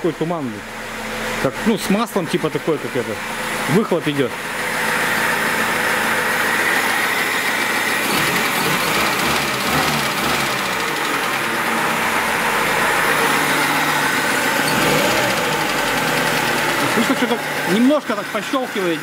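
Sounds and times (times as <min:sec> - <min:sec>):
car engine idling: 0:00.0 - 0:19.0
engine ticking: 0:00.0 - 0:19.0.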